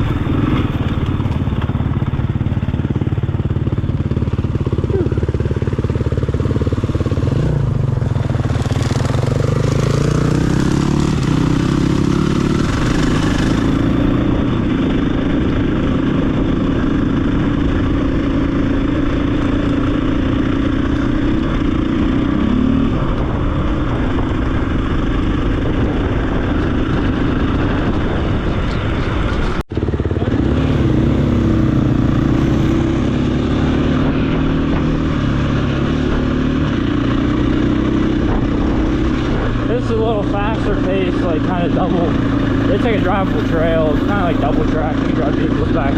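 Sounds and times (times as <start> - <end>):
dirt bike engine accelerating: 0.0 - 45.9.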